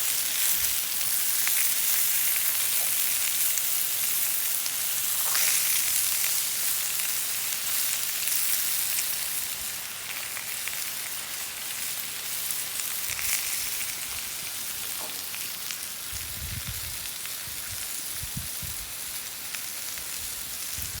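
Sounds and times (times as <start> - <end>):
beef sizzling in a pan: 0.0 - 21.0.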